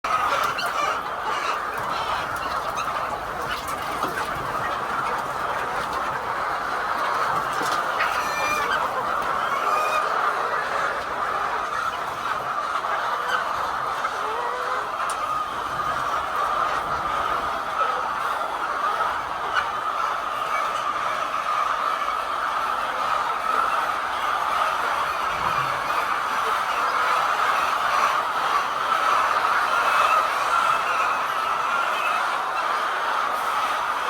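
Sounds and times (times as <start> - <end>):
hens clucking: 0.0 - 34.0.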